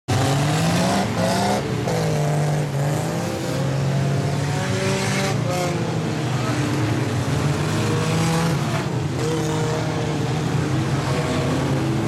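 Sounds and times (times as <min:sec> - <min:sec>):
racing car engines revving: 0:00.1 - 0:12.0.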